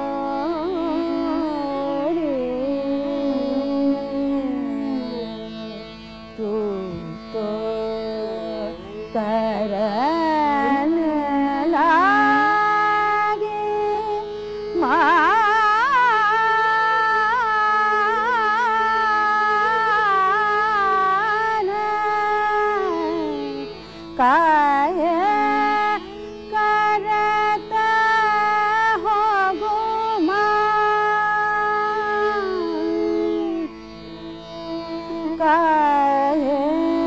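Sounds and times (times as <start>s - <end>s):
tanpura drone: 0.0s - 37.0s
woman singing classical vocal: 0.0s - 37.0s.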